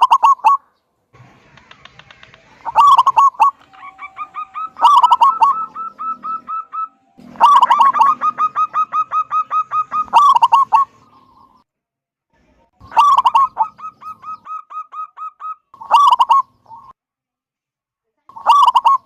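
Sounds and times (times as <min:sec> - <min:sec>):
dove cooing: 0:00.0 - 0:00.7, 0:01.6 - 0:11.6, 0:12.8 - 0:16.9, 0:18.4 - 0:19.0.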